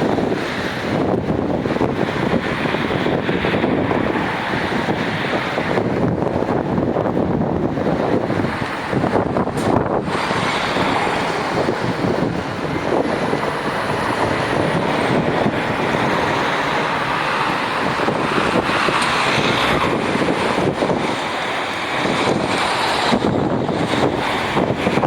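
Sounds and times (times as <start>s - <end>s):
passing road traffic: 0.0s - 25.0s
wind buffeting microphone: 0.0s - 25.0s.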